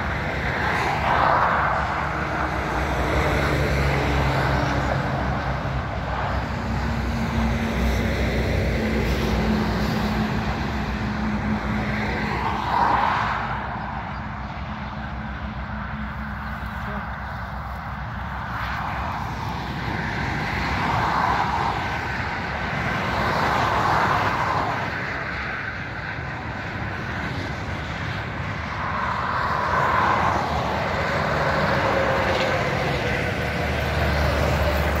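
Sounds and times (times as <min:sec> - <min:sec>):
truck passing: 0:00.0 - 0:35.0
vehicles passing on motorway: 0:00.0 - 0:35.0.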